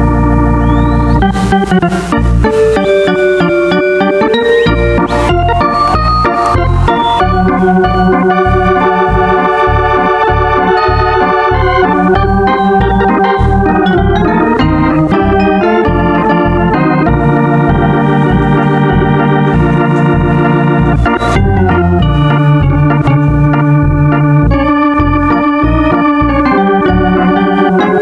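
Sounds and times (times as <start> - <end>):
organ music: 0.0 - 28.0.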